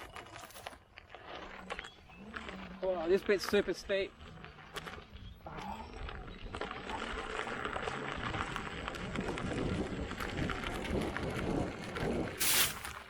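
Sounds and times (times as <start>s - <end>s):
tyre crunching over rocky trail: 0.0s - 13.0s.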